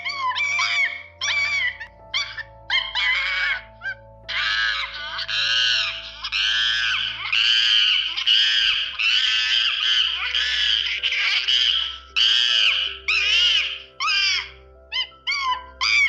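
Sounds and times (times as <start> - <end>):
monkeys calling: 0.0 - 16.0.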